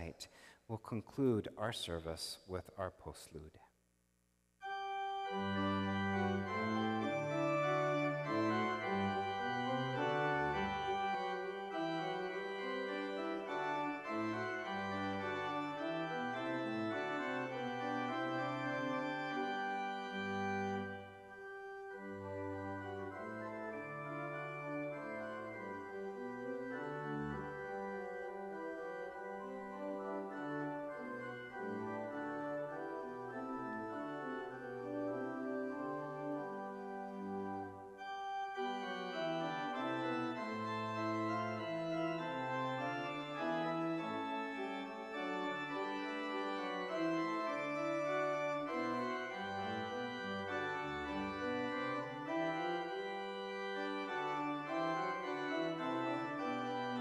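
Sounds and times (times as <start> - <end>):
church organ playing: 4.6 - 57.0.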